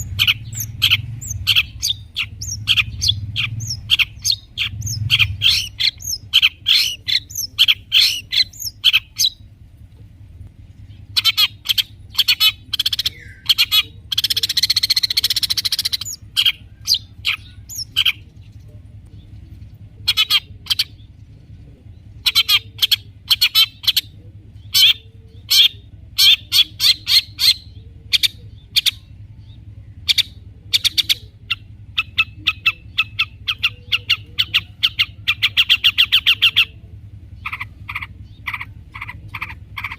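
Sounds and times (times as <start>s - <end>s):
fast bird trill: 0.0s - 9.5s, 10.7s - 18.6s, 19.2s - 21.3s, 22.0s - 39.9s
harsh rasping bird call: 0.0s - 9.5s, 10.9s - 18.3s, 22.1s - 29.2s, 30.0s - 39.9s
bird chattering song: 0.0s - 39.9s.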